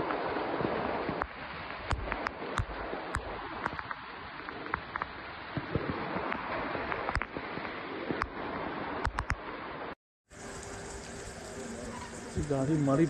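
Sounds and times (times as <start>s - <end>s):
heavy rain downpour: 0.0s - 13.0s.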